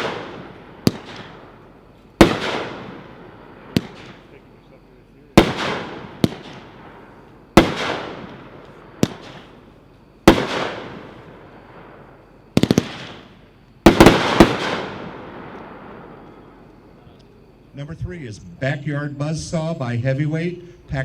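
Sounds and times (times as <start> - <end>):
fireworks reports and crackle: 0.0 - 21.0.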